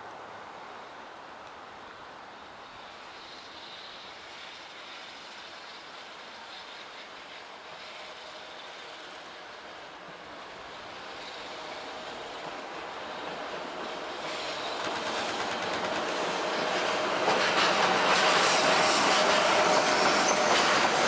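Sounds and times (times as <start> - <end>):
freight train wheels rumbling: 2.4 - 21.0.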